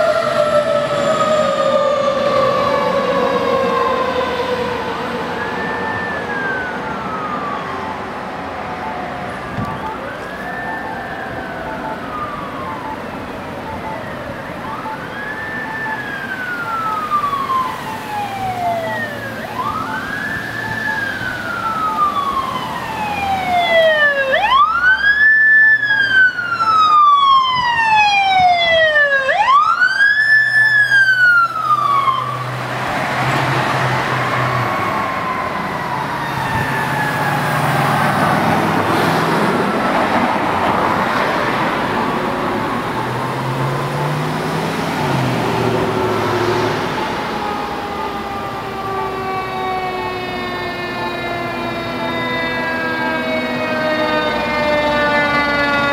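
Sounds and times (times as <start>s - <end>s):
electronic siren wailing: 0.0s - 55.9s
vehicle engine and tyre noise: 0.0s - 55.9s.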